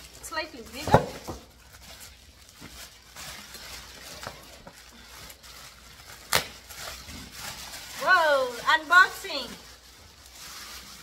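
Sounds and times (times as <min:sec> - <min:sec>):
plastic sleeve rustling: 0:00.0 - 0:11.0.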